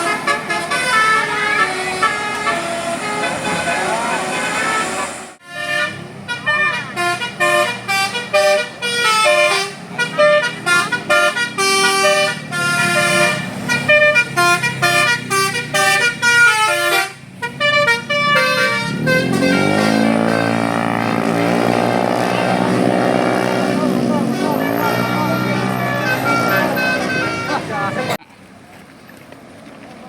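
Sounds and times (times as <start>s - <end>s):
engine revving: 0.0s - 28.2s
musical bus horn melody: 0.0s - 28.2s.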